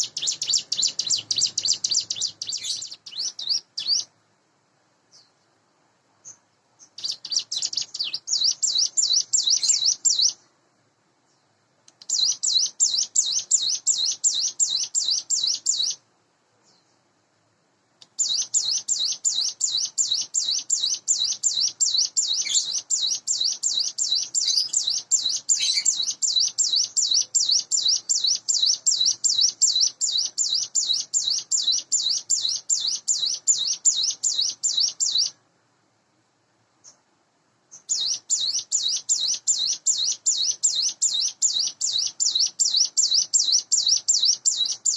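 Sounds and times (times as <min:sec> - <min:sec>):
bird singing repeated high notes: 0:00.0 - 0:04.1, 0:06.3 - 0:10.4, 0:12.1 - 0:16.0, 0:18.2 - 0:35.4, 0:37.8 - 0:44.9.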